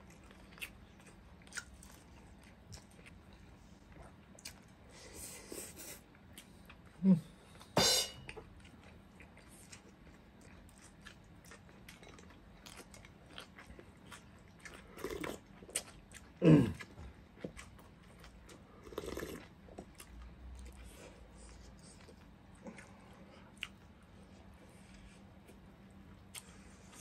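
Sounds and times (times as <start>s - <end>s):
people chewing food: 0.0s - 7.6s, 8.3s - 27.0s.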